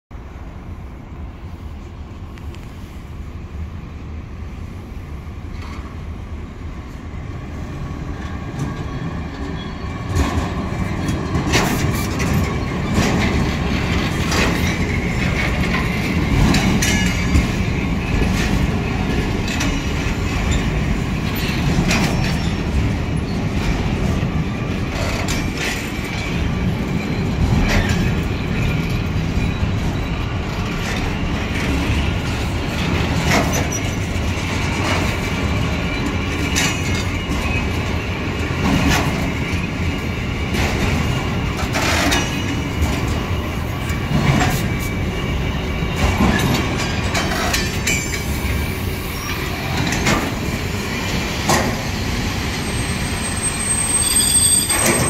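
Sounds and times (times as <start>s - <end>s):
freight train rumbling: 0.1s - 55.0s
train wheels clicking over rail joints: 8.1s - 55.0s.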